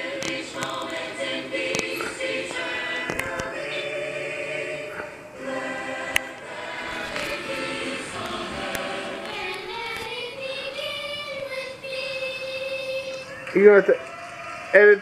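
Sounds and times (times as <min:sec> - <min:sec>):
choir singing from a television: 0:00.0 - 0:15.0.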